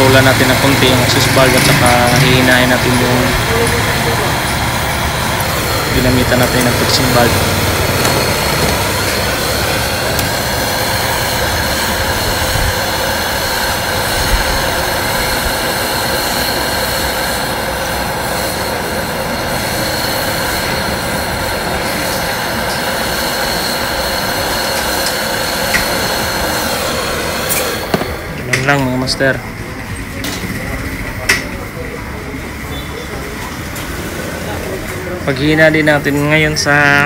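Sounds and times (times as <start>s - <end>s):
gas torch hissing: 0.0s - 37.0s.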